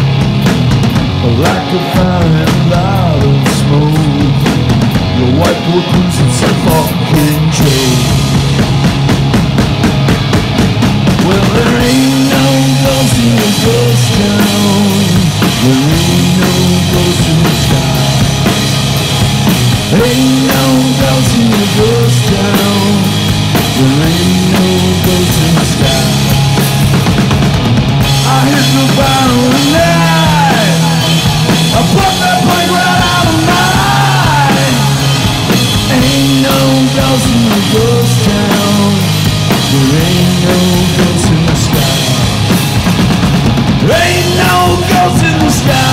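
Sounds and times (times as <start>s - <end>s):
distorted electric guitar: 0.0s - 45.9s
pounding drum kit: 0.0s - 45.9s
rock band playing: 0.0s - 45.9s
man singing: 1.2s - 8.5s, 11.2s - 18.7s, 19.8s - 26.6s, 28.1s - 42.5s, 43.8s - 45.9s.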